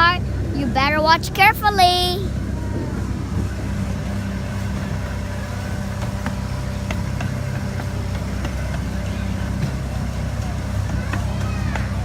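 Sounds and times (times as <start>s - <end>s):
train engine rumble: 0.0s - 12.0s.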